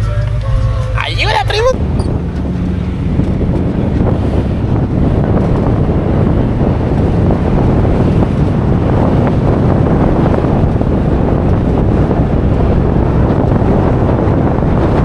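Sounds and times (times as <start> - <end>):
off-road vehicle engine: 0.0 - 15.0
wind buffeting microphone: 0.0 - 15.0.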